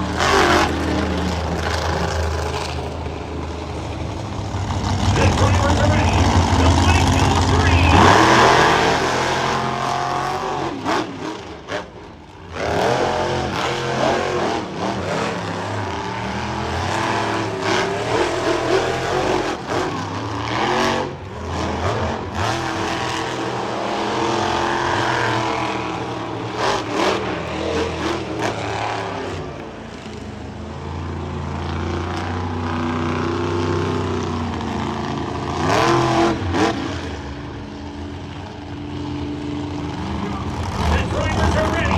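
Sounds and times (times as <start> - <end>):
monster truck engines revving: 0.0 - 41.9.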